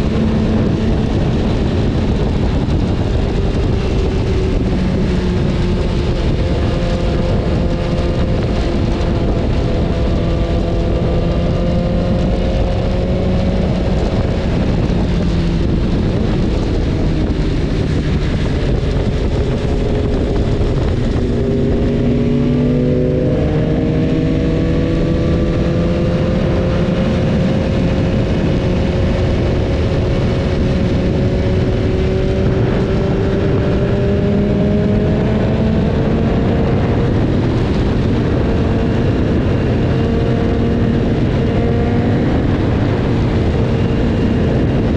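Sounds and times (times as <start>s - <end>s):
motorcycle engine running: 0.0s - 44.9s
wind rush: 0.0s - 44.9s.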